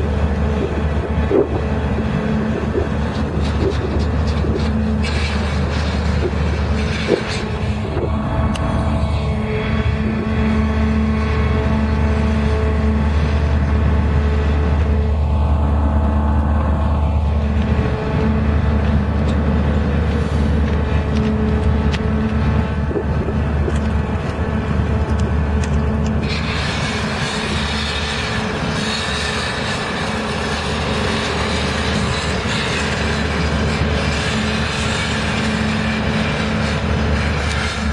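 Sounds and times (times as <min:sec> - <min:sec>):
excavator diesel engine drone: 0:00.0 - 0:37.9.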